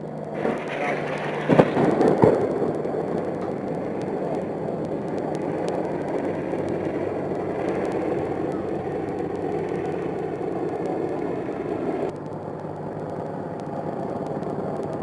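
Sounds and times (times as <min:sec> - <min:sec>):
faint clicks: 0:00.0 - 0:15.0
helicopter engine and rotor noise: 0:00.0 - 0:15.0.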